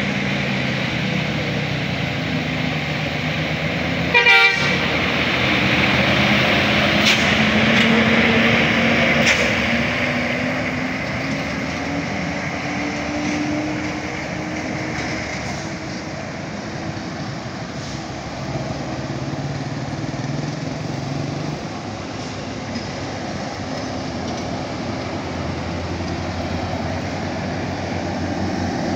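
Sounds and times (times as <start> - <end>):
heavy vehicle passing: 0.0 - 28.9.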